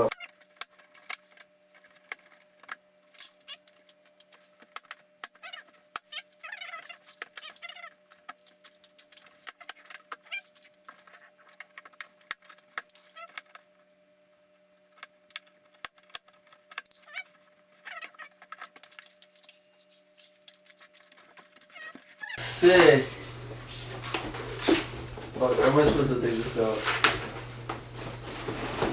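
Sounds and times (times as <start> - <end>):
low electrical hum: 0.0 - 28.9
packaging clicks and scrapes: 0.1 - 13.7, 15.0 - 28.9.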